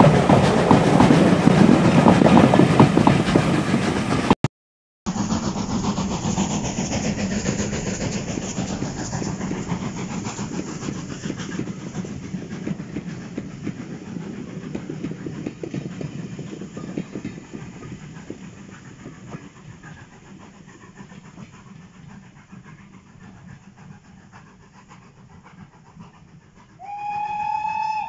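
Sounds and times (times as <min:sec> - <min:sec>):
steam locomotive chuffing: 0:00.0 - 0:04.4, 0:05.1 - 0:28.0.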